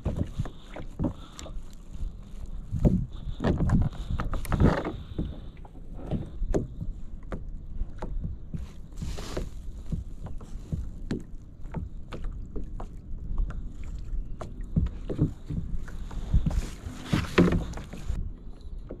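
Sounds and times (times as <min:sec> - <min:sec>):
waves slapping kayak hull: 0:00.0 - 0:19.0
wind rumble on microphone: 0:00.0 - 0:19.0.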